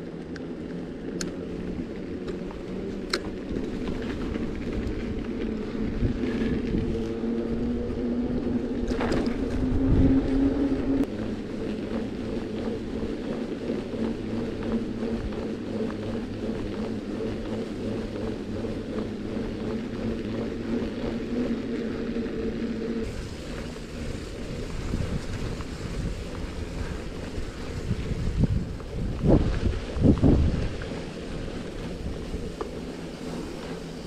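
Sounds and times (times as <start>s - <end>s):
hum rising in pitch: 0.0s - 34.0s
moving vehicle rumbling: 0.0s - 34.0s
wind on microphone: 1.4s - 34.0s.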